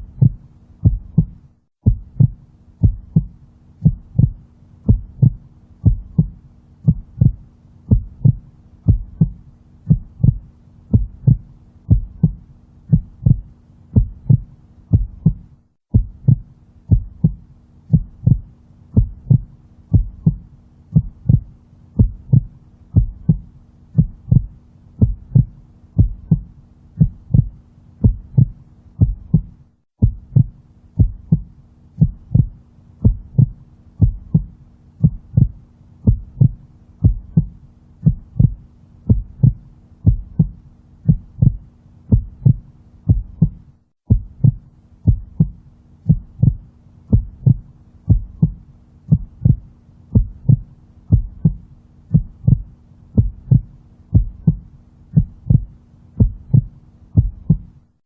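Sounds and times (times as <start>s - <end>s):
heartbeat double thump: 0.0s - 57.8s
faint steady hum: 0.0s - 58.0s.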